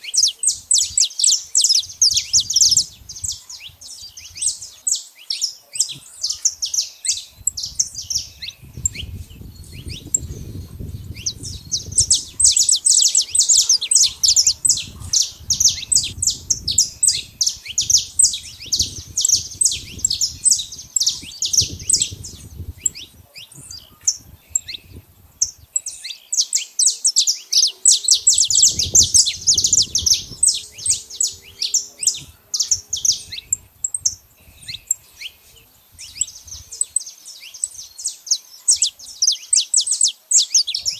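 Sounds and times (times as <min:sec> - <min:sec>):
finch singing high chirps: 0:00.0 - 0:40.9.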